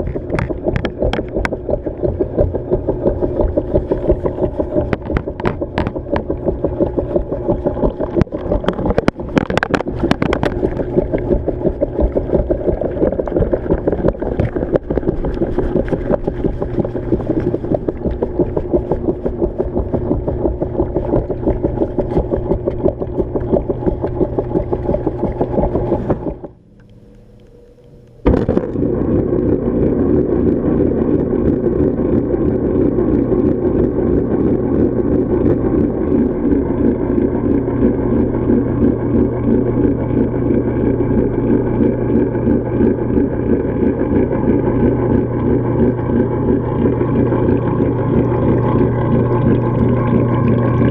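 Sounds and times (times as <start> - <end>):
churning water: 0.0 - 26.7, 28.2 - 50.9
washing machine motor drone: 0.0 - 50.9.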